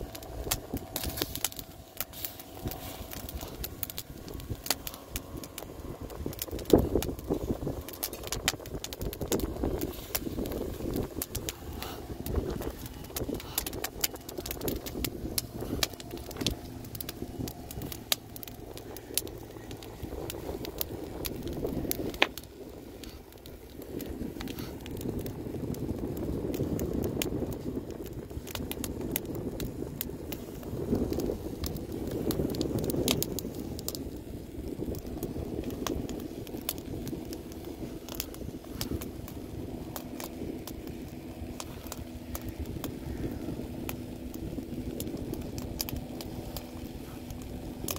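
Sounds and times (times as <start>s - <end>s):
low rumble: 0.0s - 47.9s
wood fire crackling and popping: 0.0s - 47.9s.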